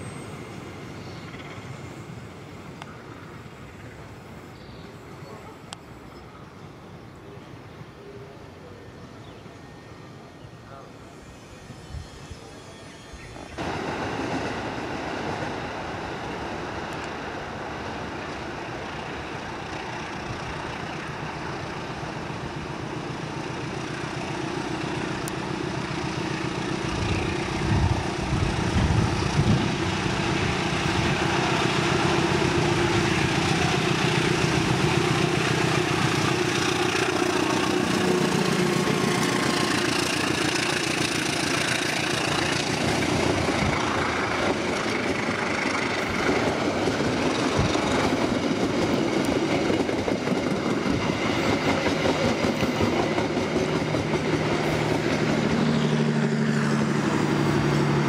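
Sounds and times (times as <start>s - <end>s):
train running: 0.0s - 58.0s.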